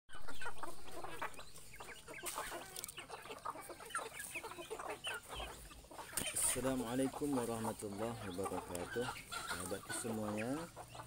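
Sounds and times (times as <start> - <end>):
chickens clucking: 0.1 - 11.0.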